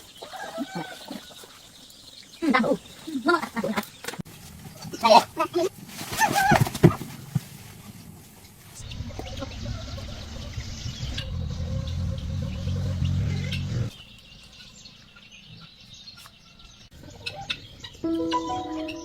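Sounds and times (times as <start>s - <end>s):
birds chirping: 0.0s - 5.8s, 8.0s - 19.0s.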